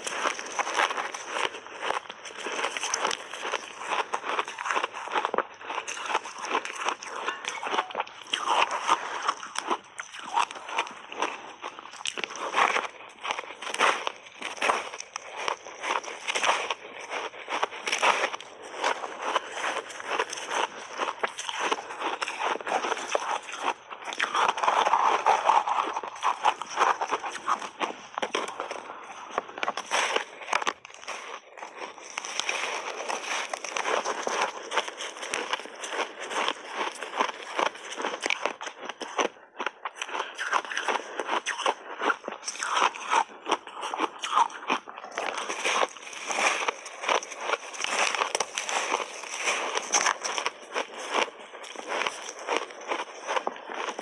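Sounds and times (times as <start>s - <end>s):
crushed ice being chewed: 0.0s - 54.0s.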